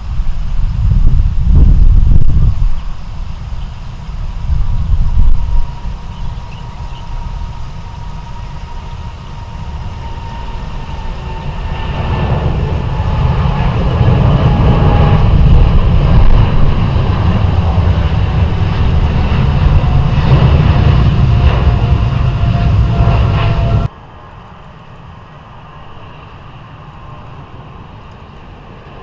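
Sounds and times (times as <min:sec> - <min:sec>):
faint engine whine: 0:00.0 - 0:29.0
jet engines rumbling: 0:00.0 - 0:29.0.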